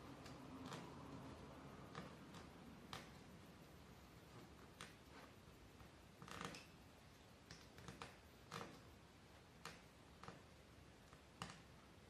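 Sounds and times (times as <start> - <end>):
light rustles of thread: 0.0 - 11.9.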